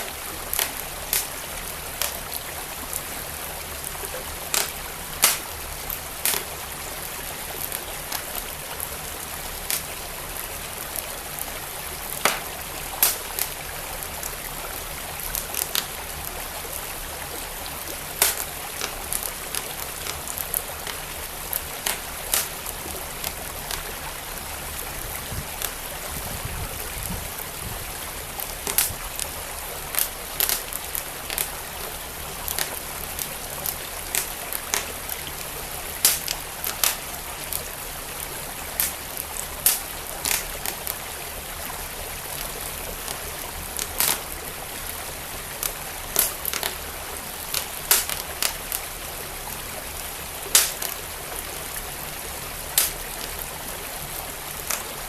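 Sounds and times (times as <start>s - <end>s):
fire crackling and popping: 0.0s - 55.0s
stream flowing: 0.0s - 55.0s.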